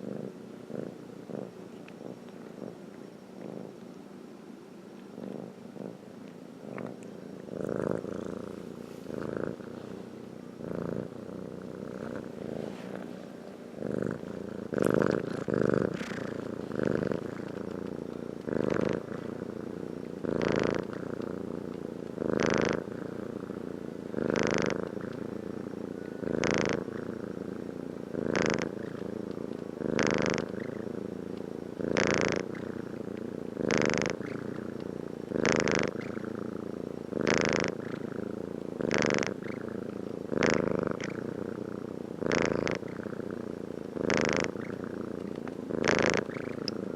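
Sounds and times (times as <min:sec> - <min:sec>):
pet snoring: 0:00.0 - 0:03.8, 0:05.1 - 0:46.9.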